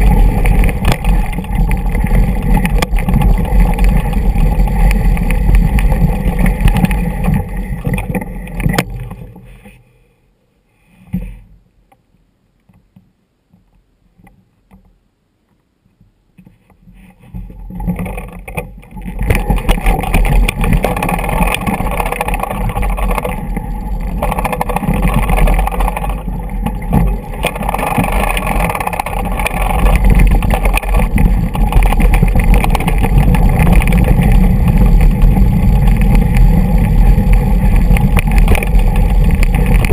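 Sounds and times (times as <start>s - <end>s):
loose stones clattering: 0.0s - 9.7s, 17.3s - 39.9s
wind rumble on microphone: 0.0s - 9.8s, 15.9s - 39.9s.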